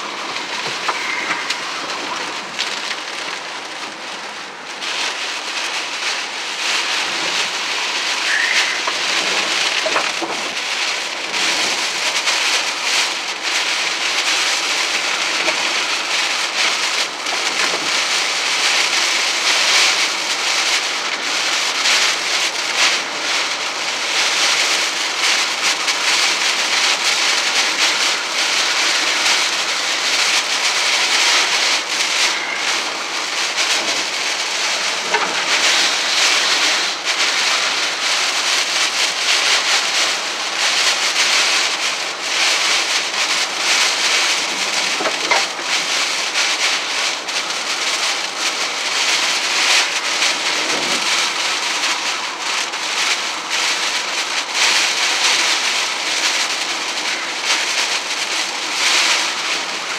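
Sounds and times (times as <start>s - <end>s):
heavy rain on car windshield: 0.0s - 59.9s.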